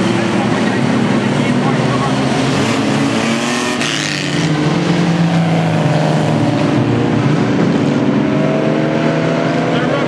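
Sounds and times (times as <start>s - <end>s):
racing car engines: 0.0s - 10.0s.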